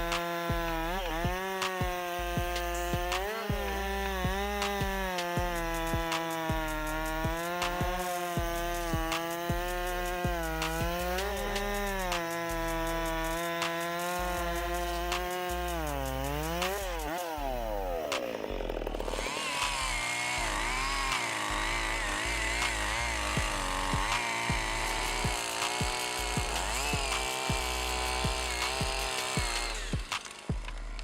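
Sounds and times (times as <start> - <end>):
chainsaw engine revving: 0.0 - 31.0.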